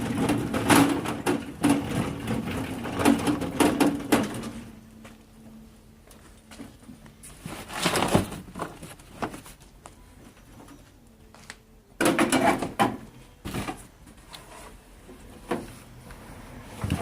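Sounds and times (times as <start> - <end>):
objects rustling and knocking: 0.0 - 5.2, 6.1 - 16.0.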